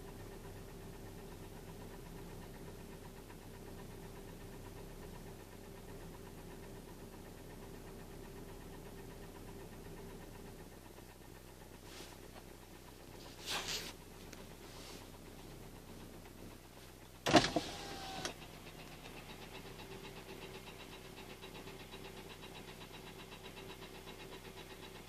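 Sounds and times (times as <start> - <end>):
car engine running with knock: 0.0 - 25.0.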